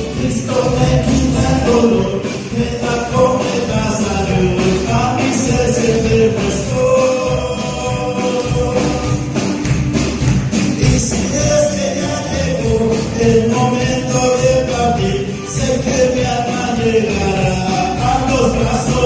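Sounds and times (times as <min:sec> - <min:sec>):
tambourine jingling: 0:00.0 - 0:19.0.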